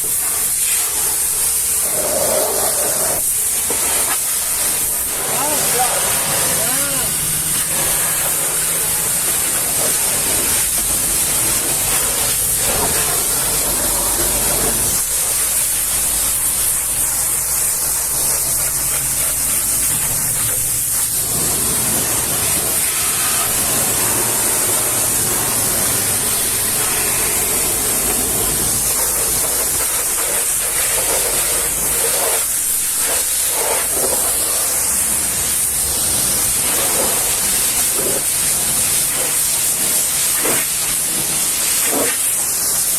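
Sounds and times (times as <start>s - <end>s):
pressure washer spraying: 0.0s - 42.9s.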